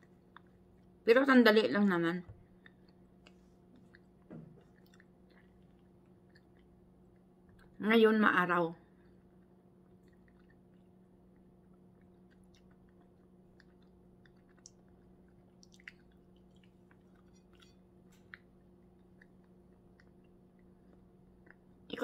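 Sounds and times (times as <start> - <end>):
person chewing food: 0.0 - 1.0, 2.4 - 7.8, 8.9 - 21.9
steady low hum: 0.0 - 22.0.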